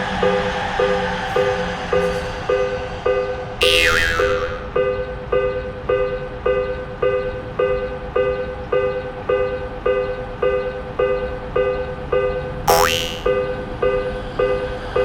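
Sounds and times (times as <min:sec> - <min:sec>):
railroad crossing warning bell: 0:00.0 - 0:15.0.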